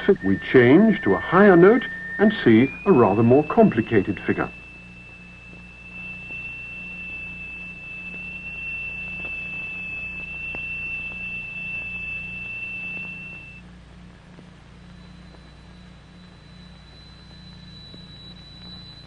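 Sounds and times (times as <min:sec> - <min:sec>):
low hum: 0:00.0 - 0:19.0
steady high-pitched tone: 0:00.0 - 0:19.0.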